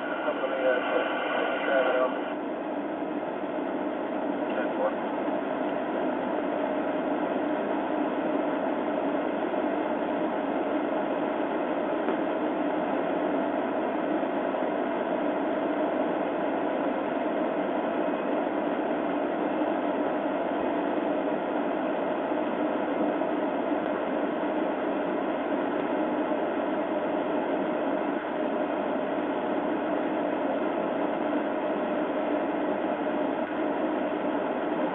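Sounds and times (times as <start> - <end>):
steady hiss and hum: 0.0 - 34.9.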